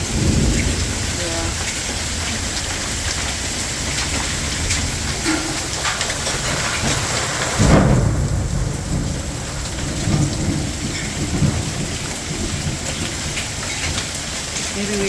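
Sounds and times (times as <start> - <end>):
hail and rain hammering down: 0.0 - 15.0
thunder rumble: 0.0 - 15.0.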